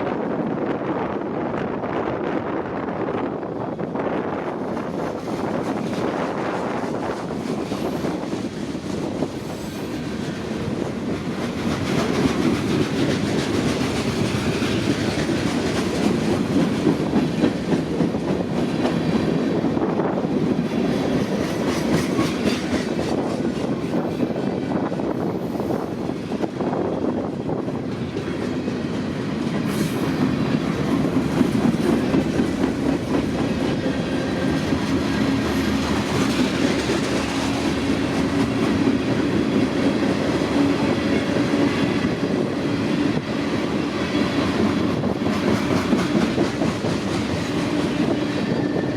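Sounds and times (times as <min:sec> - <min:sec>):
train wheels clattering over rail joints: 0:04.6 - 0:48.9.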